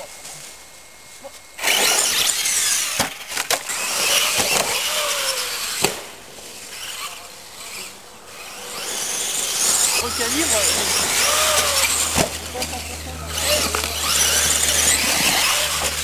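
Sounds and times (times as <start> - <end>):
rc truck motor whining: 0.0 - 16.0.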